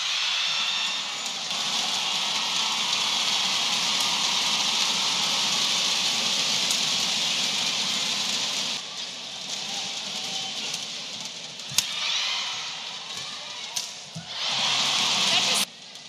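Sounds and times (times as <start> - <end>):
crowd applauding and cheering: 0.0 - 15.7.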